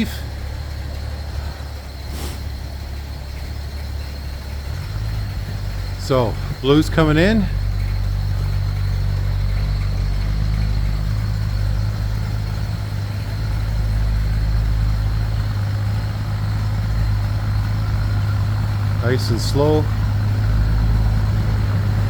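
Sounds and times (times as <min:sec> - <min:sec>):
snow bus engine idling: 0:00.0 - 0:22.0.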